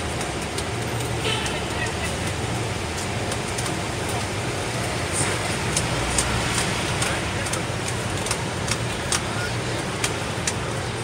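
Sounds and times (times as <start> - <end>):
bus engine hum: 0.0 - 11.0
city traffic noise: 0.0 - 11.0.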